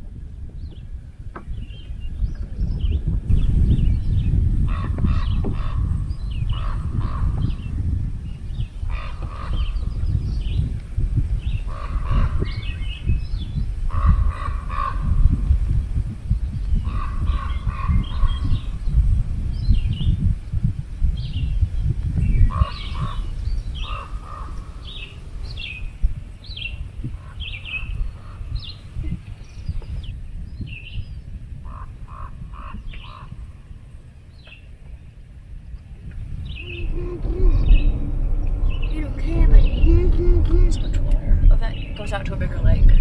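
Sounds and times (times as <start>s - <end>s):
low rumble: 0.0s - 29.1s, 35.4s - 43.0s
birds chirping: 0.4s - 43.0s.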